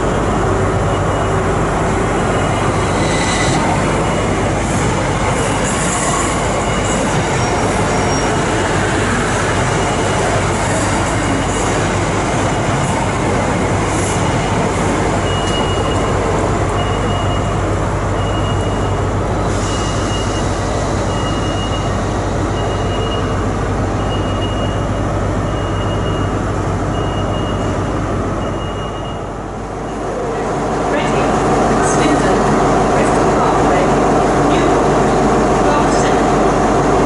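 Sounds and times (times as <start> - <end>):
train running: 0.0 - 37.0.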